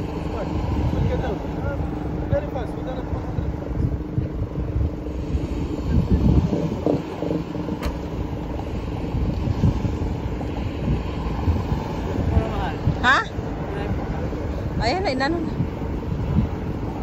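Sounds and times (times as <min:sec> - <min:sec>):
road traffic rumble: 0:00.0 - 0:17.0
wind on microphone: 0:00.0 - 0:17.0.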